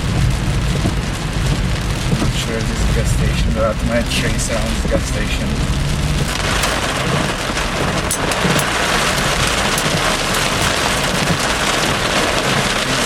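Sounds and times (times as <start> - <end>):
heavy rain on a car: 0.0 - 13.0
low rumble of car: 0.0 - 13.0.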